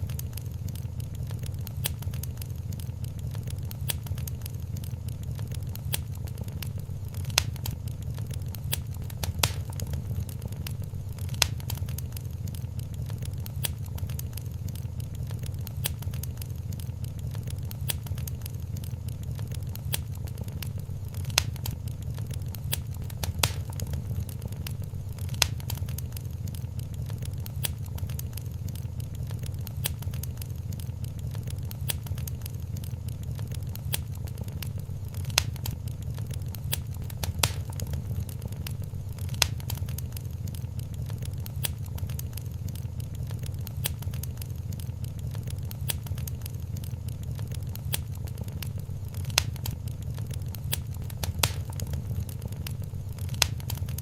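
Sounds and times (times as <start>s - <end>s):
loud fire pops: 0.0s - 54.0s
low rumble of flames: 0.0s - 54.0s
wood fire crackling: 0.0s - 54.0s.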